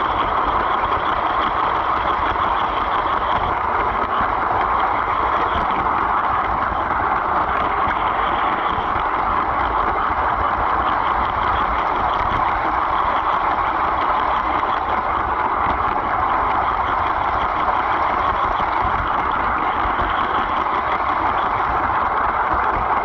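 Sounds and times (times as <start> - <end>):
toy train running on track: 0.0 - 23.0.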